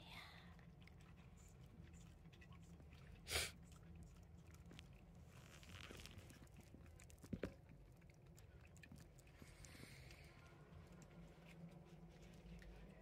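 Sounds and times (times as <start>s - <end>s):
cat chewing: 0.5s - 13.0s.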